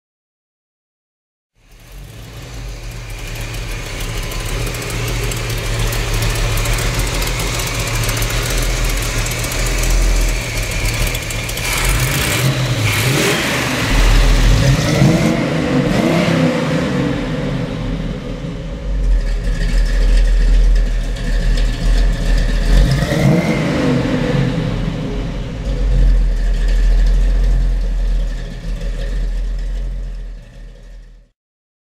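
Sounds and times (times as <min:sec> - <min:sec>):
car engine idling and revving: 0:01.6 - 0:31.3.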